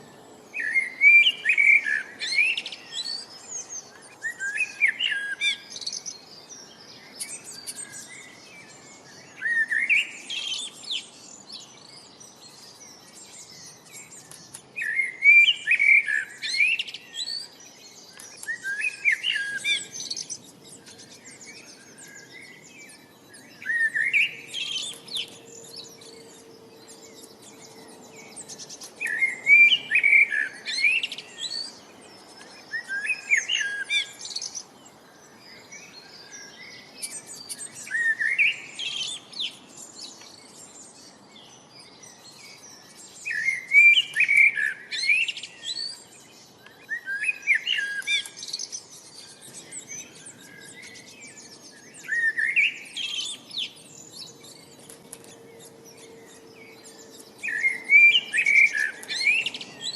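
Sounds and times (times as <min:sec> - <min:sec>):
faint bird chirps: 0:00.0 - 0:59.9
songbird singing: 0:00.0 - 0:59.9.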